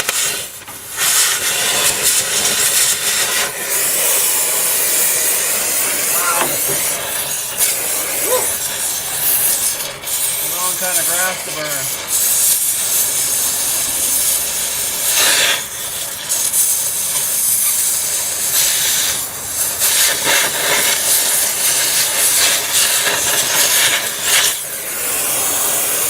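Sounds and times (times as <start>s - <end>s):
cutting torch hissing: 0.0s - 26.0s.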